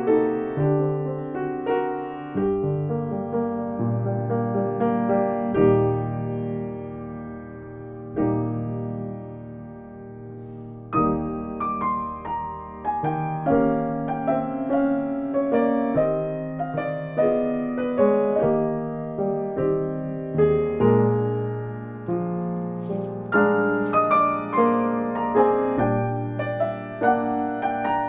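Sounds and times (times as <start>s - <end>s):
soft solo piano: 0.0s - 28.0s.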